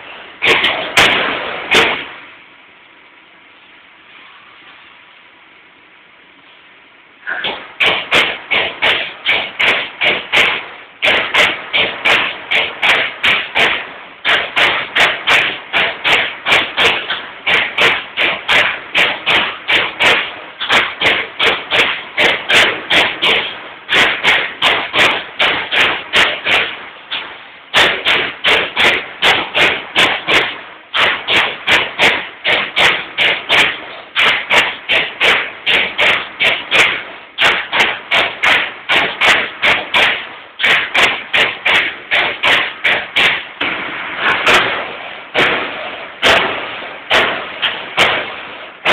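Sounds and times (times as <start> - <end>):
punch press punching sheet metal: 0.0 - 2.4, 7.2 - 48.9.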